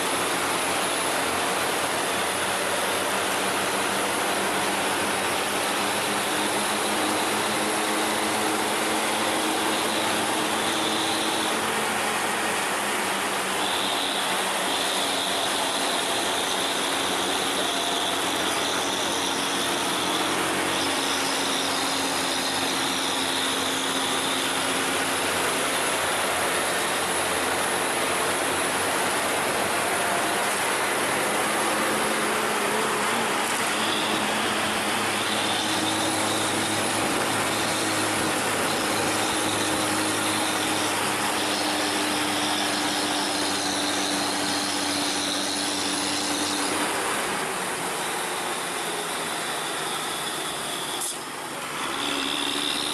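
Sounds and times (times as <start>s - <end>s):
bus diesel engines under load: 0.0s - 52.9s
road and tyre noise: 0.0s - 52.9s.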